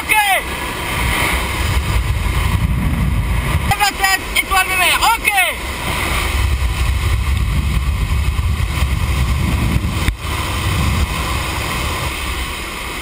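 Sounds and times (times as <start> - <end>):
aircraft engine: 0.0 - 13.0
wind buffeting microphone: 0.4 - 13.0.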